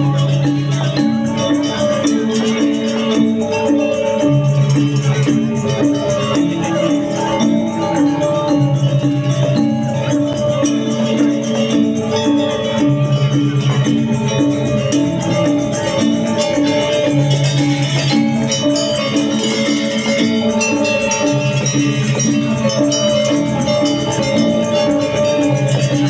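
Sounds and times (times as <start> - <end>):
gamelan ensemble playing: 0.0 - 26.0.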